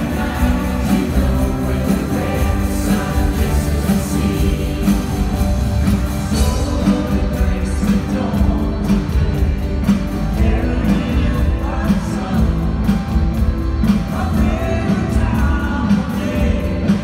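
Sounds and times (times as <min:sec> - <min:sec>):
drum beat: 0:00.0 - 0:17.0
heavy bass: 0:00.0 - 0:17.0
keyboards: 0:00.0 - 0:17.0
live rock band playing: 0:00.0 - 0:17.0.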